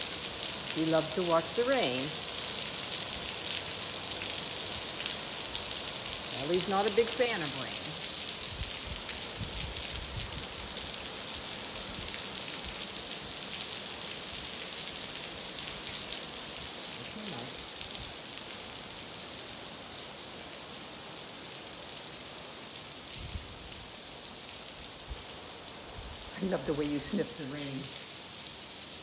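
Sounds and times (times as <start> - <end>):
heavy rain on pavement: 0.0 - 29.0.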